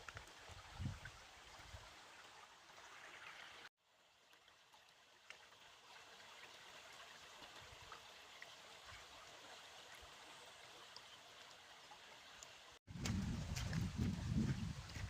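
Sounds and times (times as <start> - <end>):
stream running water: 0.0 - 15.0.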